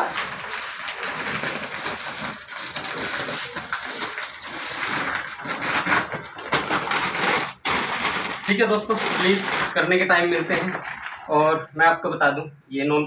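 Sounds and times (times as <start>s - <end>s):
plastic sack rustling: 0.0s - 11.6s.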